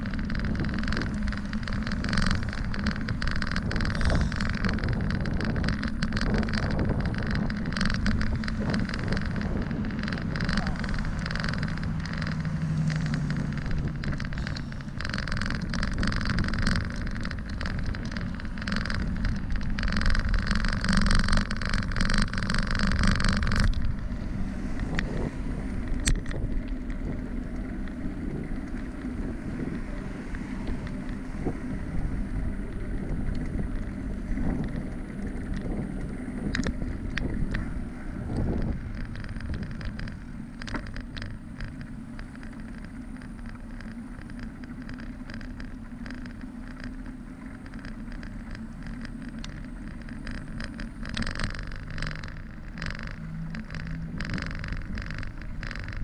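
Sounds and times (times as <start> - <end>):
bicycle tyre noise: 0.0 - 56.0
wind rumbling on microphone: 0.0 - 56.0.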